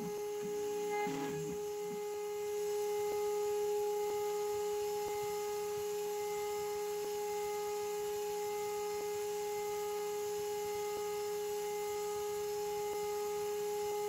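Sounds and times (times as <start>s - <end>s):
router spindle whining: 0.0s - 14.0s.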